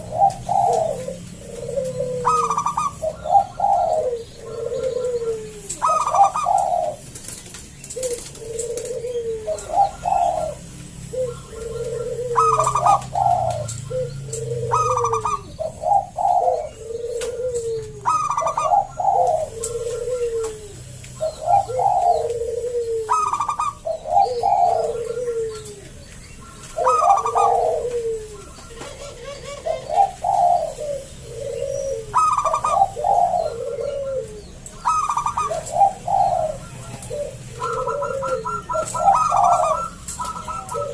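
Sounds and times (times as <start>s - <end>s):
zebra dove cooing: 0.0s - 40.9s.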